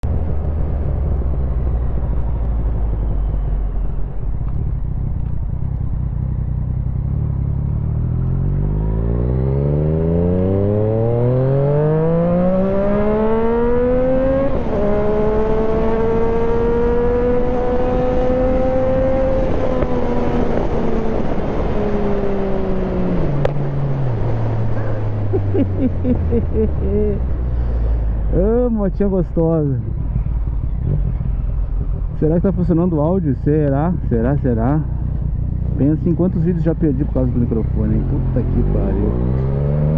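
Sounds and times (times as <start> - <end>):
motorcycle engine revving: 0.0 - 28.7, 29.8 - 39.9.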